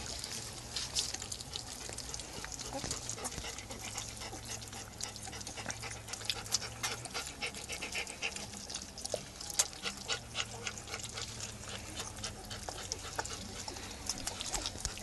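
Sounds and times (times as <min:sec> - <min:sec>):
puppies eating smacks and slurps: 0:00.0 - 0:15.0.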